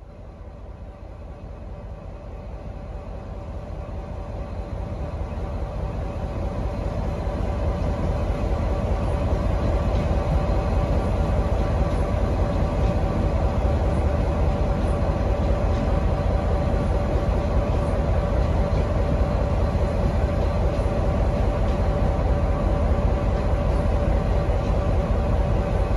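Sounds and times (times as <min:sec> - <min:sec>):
locomotive engine whine: 0:00.0 - 0:25.9.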